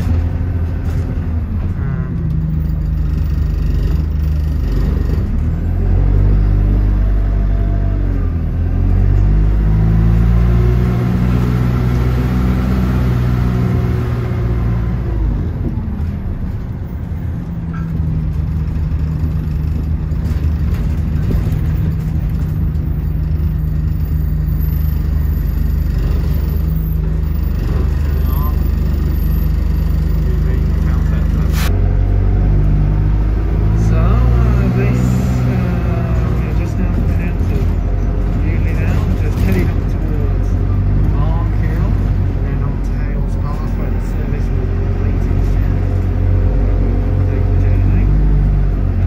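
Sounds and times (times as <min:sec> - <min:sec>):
bus engine accelerating: 0:00.0 - 0:49.0.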